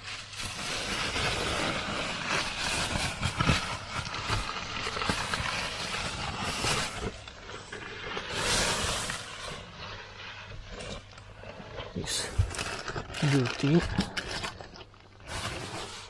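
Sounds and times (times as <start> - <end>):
packaging rustling: 0.0 - 16.0.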